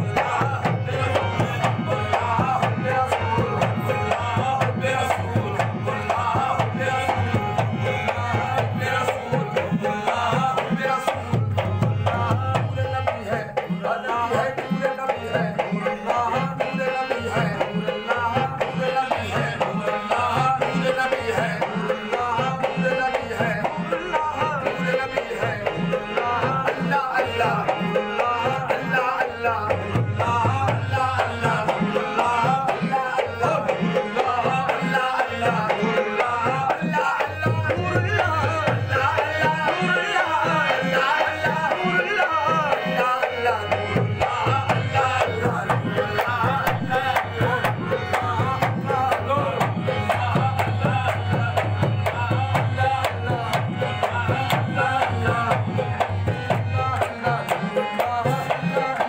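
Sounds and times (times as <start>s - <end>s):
harmonium: 0.0s - 59.0s
voices singing a refrain: 0.0s - 59.0s.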